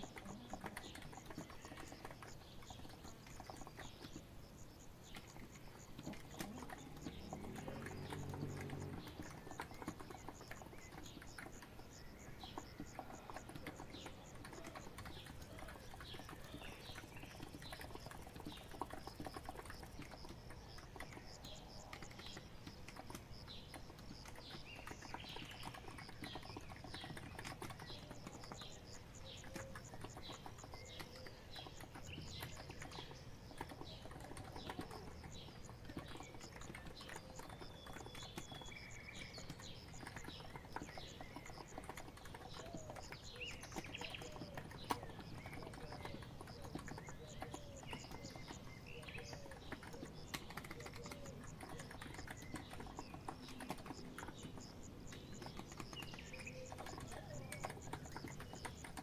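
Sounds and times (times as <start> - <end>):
faint birds calling: 0.0 - 59.0
typing on keyboard: 0.0 - 59.0.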